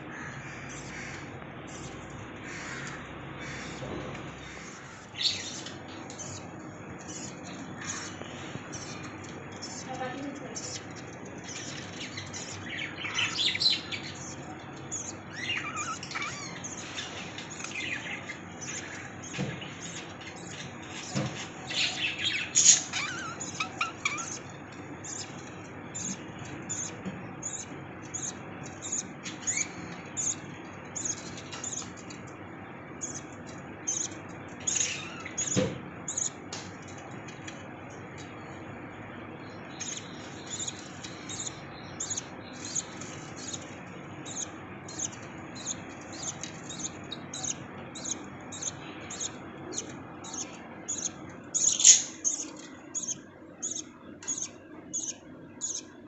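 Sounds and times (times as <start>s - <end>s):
lovebirds chirping: 0.3s - 37.0s, 37.6s - 56.0s.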